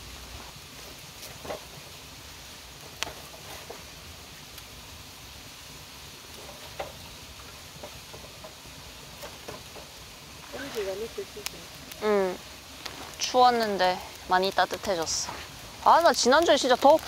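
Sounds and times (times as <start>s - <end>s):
campfire crackling: 0.0s - 17.0s
faint hiss: 0.0s - 17.0s
fire pops: 0.0s - 17.0s.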